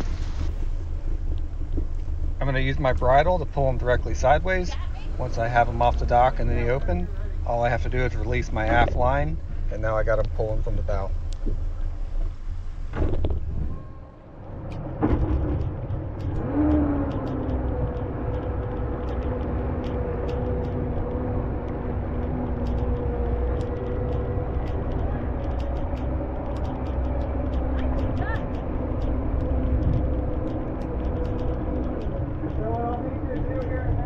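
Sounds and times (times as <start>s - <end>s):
outboard motors droning: 0.0s - 34.0s.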